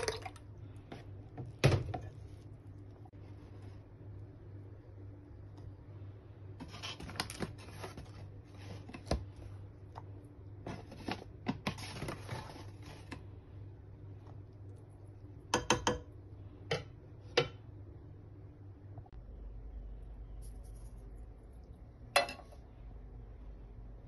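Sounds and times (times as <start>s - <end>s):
steady low hum: 0.1s - 11.5s, 12.5s - 24.0s.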